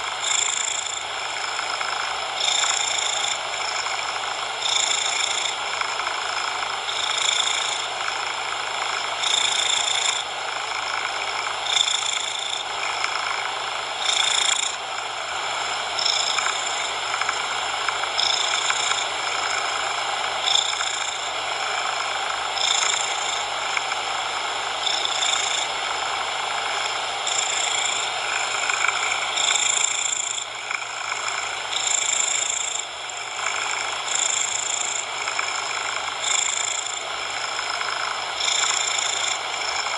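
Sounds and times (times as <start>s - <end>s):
cat purring: 0.0s - 39.9s
steady noise hiss: 0.0s - 39.9s.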